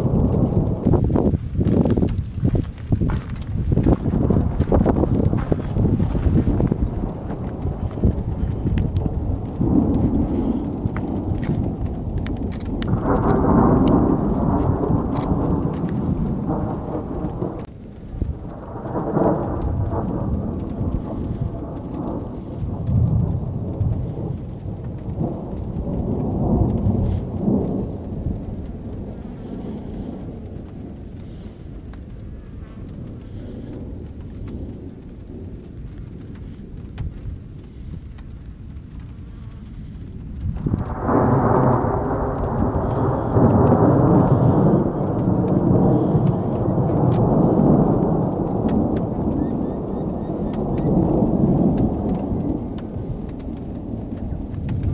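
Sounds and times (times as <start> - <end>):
rolling thunder rumbles: 0.0 - 54.9.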